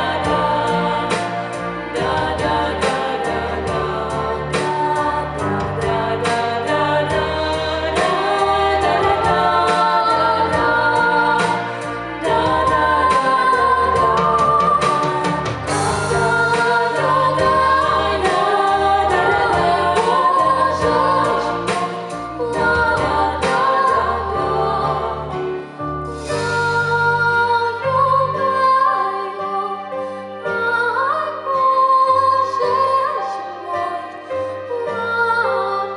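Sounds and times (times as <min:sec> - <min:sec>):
female vocal trio singing: 0:00.0 - 0:35.9
musical accompaniment: 0:00.0 - 0:35.9.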